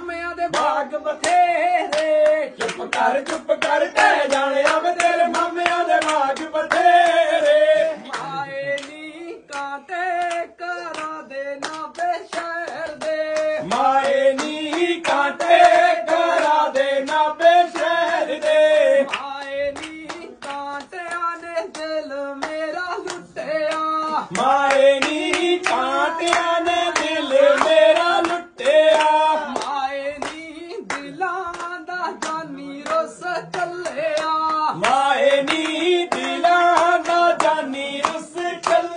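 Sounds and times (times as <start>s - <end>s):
group singing folk couplets: 0.0s - 38.9s
hand clapping: 0.0s - 38.9s.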